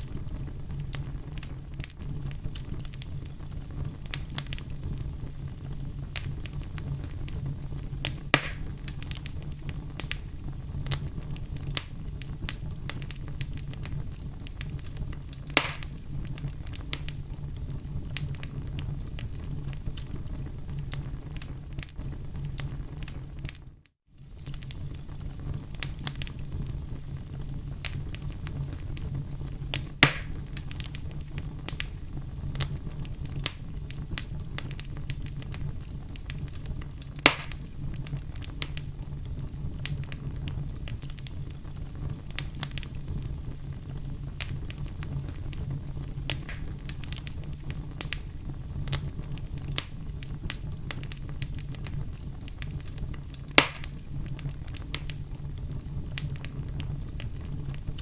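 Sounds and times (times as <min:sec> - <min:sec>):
fireplace fire crackling: 0:00.0 - 0:58.0
loud fire pops: 0:00.0 - 0:58.0.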